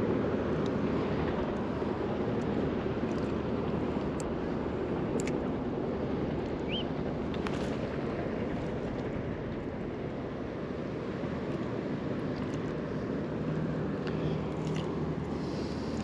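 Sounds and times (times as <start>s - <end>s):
motorboat engine humming: 0.0s - 16.0s
river water: 0.0s - 16.0s
wind: 0.0s - 16.0s.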